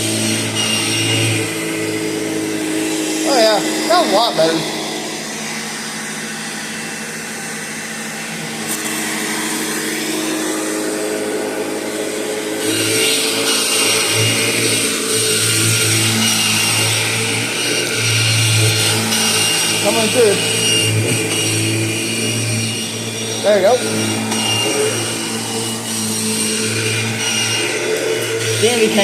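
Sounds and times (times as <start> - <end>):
upright vacuum running: 0.0 - 29.0.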